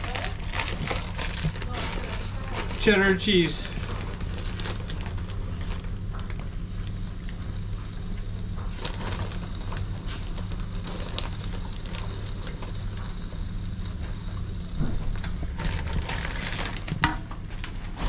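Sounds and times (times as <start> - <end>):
plastic bag crinkling: 0.0 - 7.6, 8.4 - 13.5, 15.1 - 18.0
low hum: 0.0 - 18.0.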